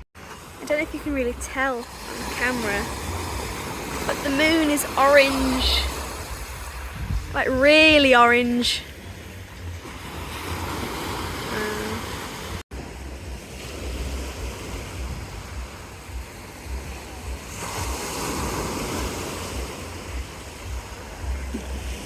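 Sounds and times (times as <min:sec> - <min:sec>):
sea waves washing on shore: 0:00.2 - 0:22.0
wind buffeting microphone: 0:00.5 - 0:11.6, 0:12.4 - 0:22.0.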